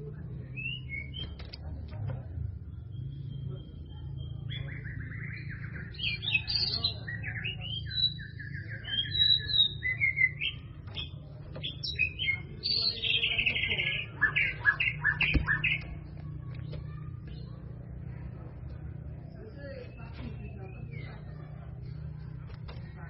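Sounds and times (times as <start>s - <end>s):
bird singing varied song: 0.0s - 23.0s.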